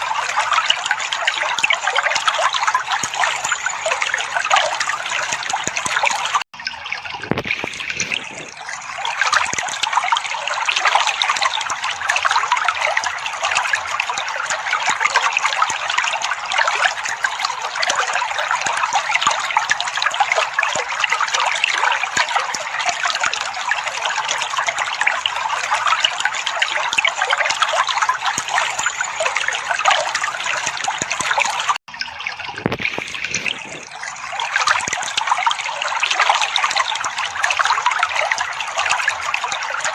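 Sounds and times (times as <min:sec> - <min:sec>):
trickling babbling water: 0:00.0 - 0:39.9.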